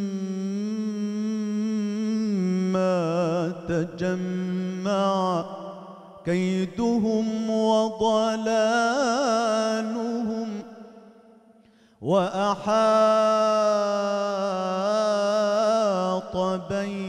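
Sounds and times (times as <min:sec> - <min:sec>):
man singing religious chant: 0:00.0 - 0:10.8, 0:12.0 - 0:17.0.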